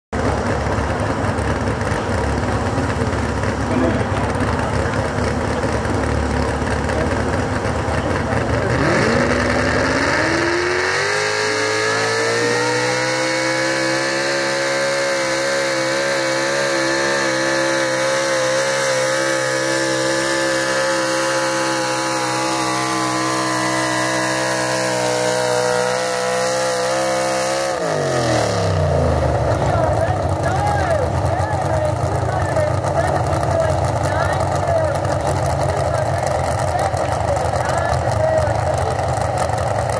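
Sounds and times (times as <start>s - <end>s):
pickup engine revving: 0.2s - 39.9s.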